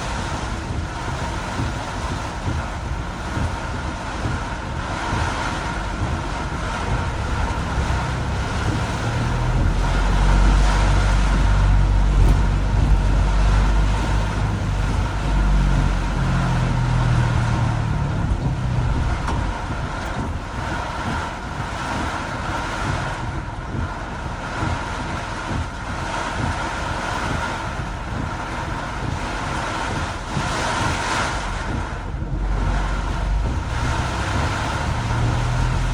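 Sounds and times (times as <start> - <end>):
heavy rain hissing: 0.0 - 35.9
vehicle rumble: 0.0 - 35.9.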